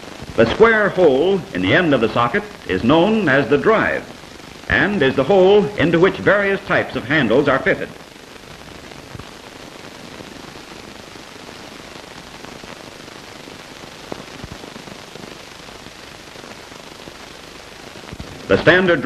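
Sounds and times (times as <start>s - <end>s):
old film hiss and crackle: 0.0s - 19.0s.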